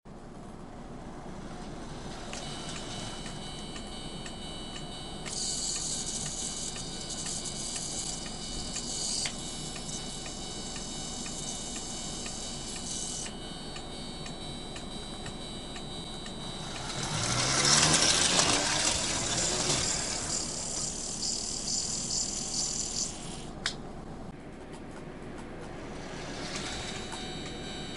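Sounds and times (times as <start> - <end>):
crossing signal warning bell: 1.4 - 23.3, 26.2 - 27.9.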